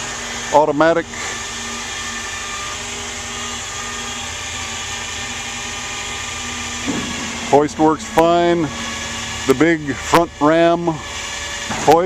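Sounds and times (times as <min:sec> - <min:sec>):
truck engine running with whine: 0:00.0 - 0:12.0.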